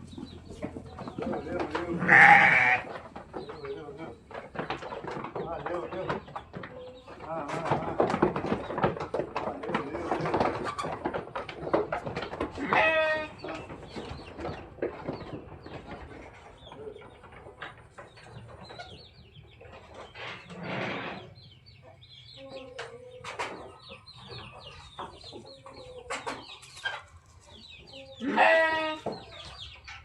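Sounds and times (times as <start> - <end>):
farm animals calling: 0.0 - 30.0.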